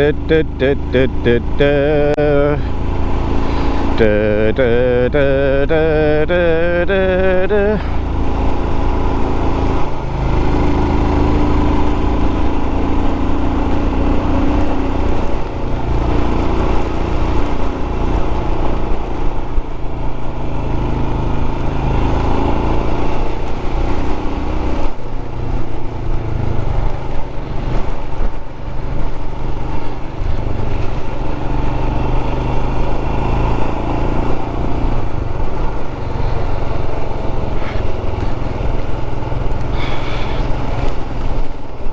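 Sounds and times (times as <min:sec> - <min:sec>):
motorcycle engine running: 0:00.0 - 0:41.9
rushing wind: 0:02.2 - 0:41.9.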